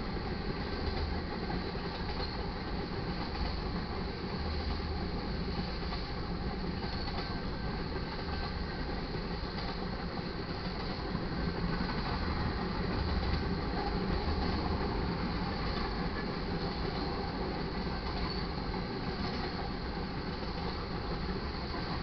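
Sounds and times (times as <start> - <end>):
freight train rolling past: 0.0 - 22.0.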